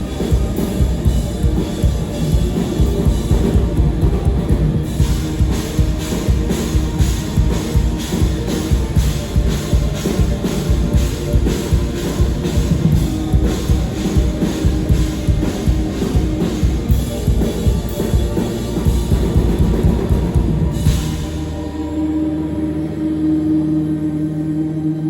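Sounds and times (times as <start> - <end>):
driving drum beat: 0.0 - 22.4
live rock band playing: 0.0 - 23.8.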